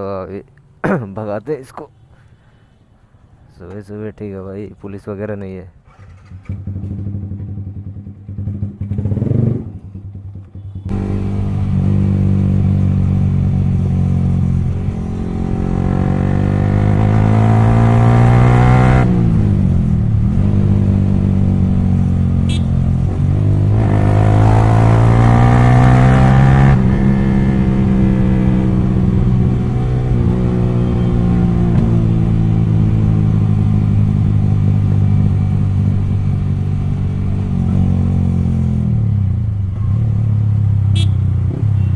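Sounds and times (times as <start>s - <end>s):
motorcycle engine pulling away: 5.9s - 40.8s.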